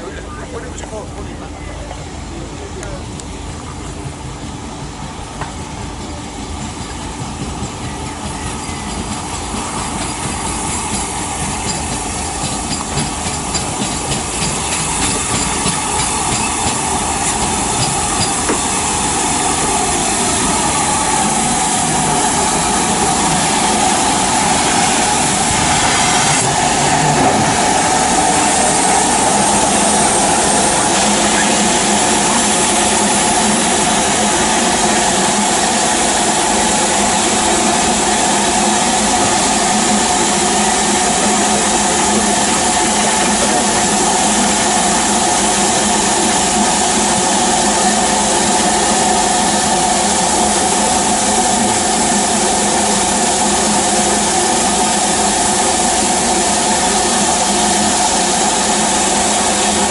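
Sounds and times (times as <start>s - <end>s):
steam locomotive rhythmic beat: 3.5s - 59.9s
steam hissing: 4.6s - 59.9s.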